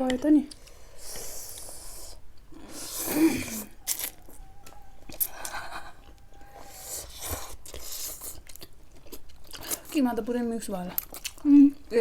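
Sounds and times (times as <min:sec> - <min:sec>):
chewing noodles: 0:00.5 - 0:10.1, 0:10.8 - 0:12.0.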